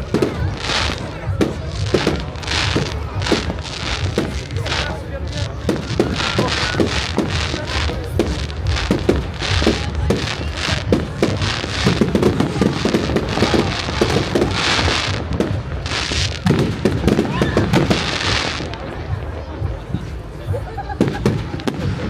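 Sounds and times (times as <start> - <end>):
firework bangs: 0.0 - 20.0, 21.0 - 22.0
firework crackling: 0.0 - 22.0.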